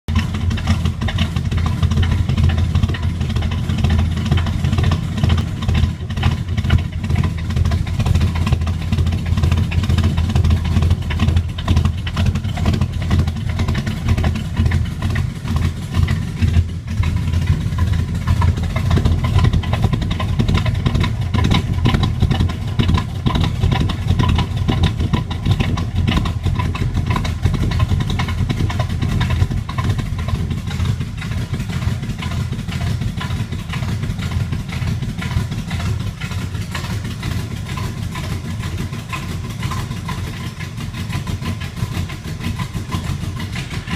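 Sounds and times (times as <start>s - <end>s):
car engine idling roughly: 0.0s - 43.9s.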